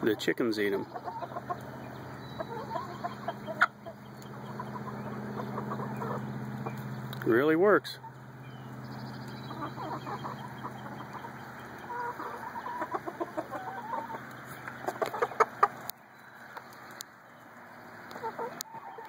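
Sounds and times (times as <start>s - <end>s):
steady low hum: 0.0s - 18.2s
chickens clucking: 0.0s - 19.0s.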